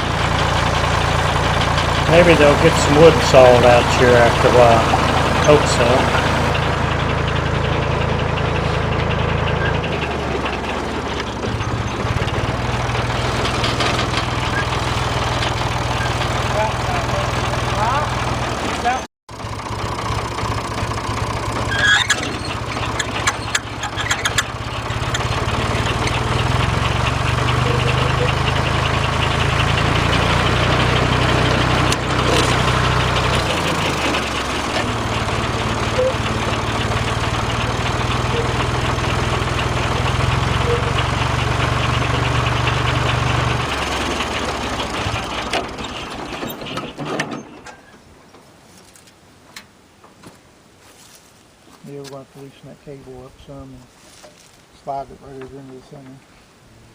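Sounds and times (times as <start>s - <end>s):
sawmill engine droning: 0.0s - 48.2s.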